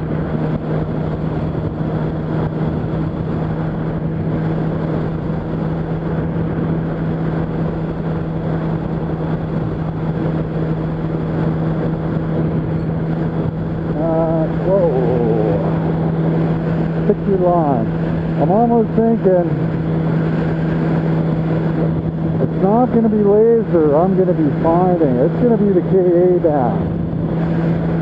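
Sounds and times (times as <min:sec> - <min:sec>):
motorcycle engine droning: 0:00.0 - 0:28.0
wind and road noise: 0:00.0 - 0:28.0.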